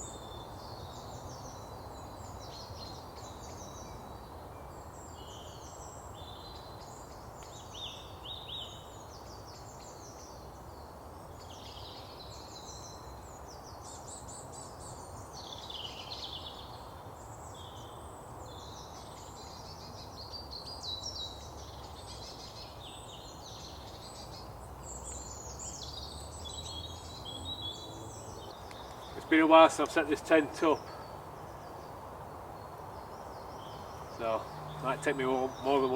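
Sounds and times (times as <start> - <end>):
low background hiss: 0.0 - 35.9
songbirds singing and chirping: 0.0 - 35.9.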